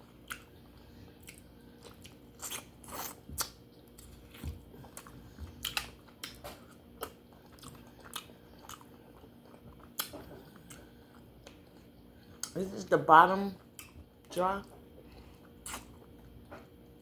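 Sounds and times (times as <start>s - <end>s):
crunching and chewing: 0.0s - 12.7s, 13.6s - 17.0s.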